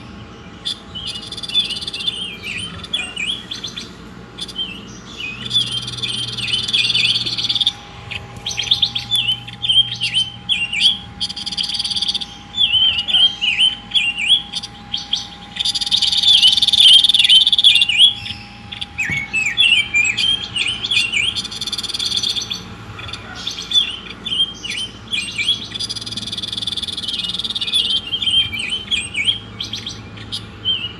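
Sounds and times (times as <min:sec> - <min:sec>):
faint steady hum: 0:00.0 - 0:30.9
songbird chattering chirps: 0:00.0 - 0:30.9.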